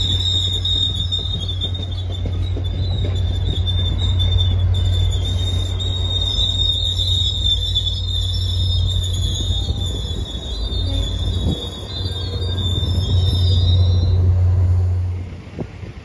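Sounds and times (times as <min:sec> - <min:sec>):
high-pitched wheel squeal: 0:00.0 - 0:14.6
train rolling past rumbling: 0:00.0 - 0:16.0.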